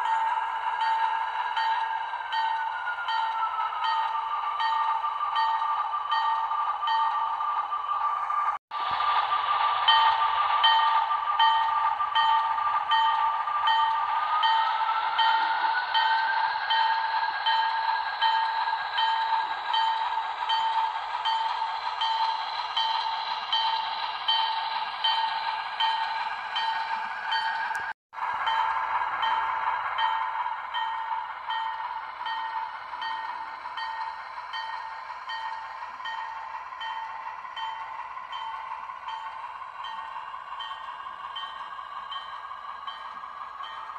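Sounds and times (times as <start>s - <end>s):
model locomotive bell ringing: 0.0s - 7.9s, 9.8s - 43.9s.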